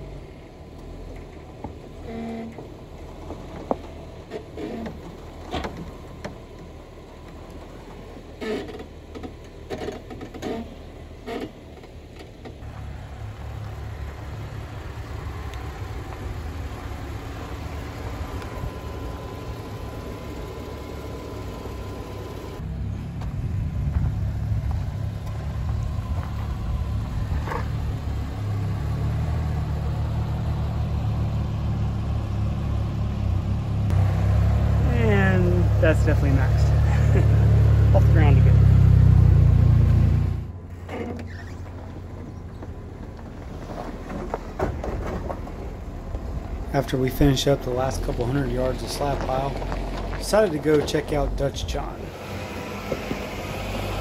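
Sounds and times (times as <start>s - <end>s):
engine low rumble: 0.0s - 54.0s.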